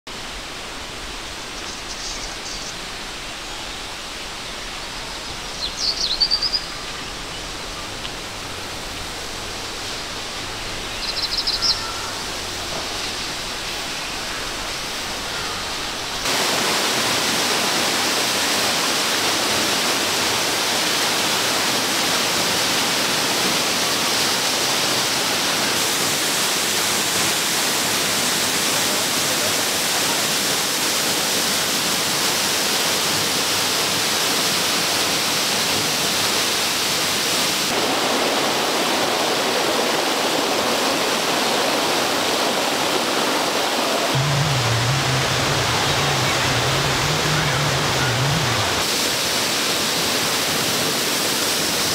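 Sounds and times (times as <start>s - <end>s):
waterfall rushing: 0.1s - 51.9s.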